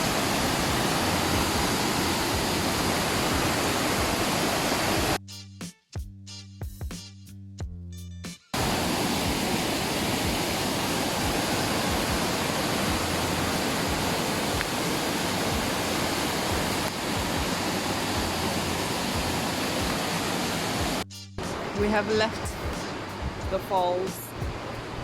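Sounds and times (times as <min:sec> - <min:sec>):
waterfall rushing: 0:00.0 - 0:05.2, 0:08.6 - 0:25.0.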